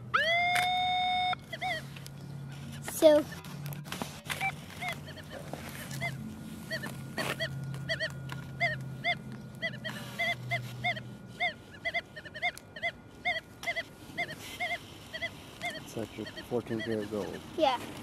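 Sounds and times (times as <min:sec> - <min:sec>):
low steady hum: 0:00.0 - 0:18.0
metal detector beeps: 0:00.1 - 0:01.8, 0:04.3 - 0:17.4.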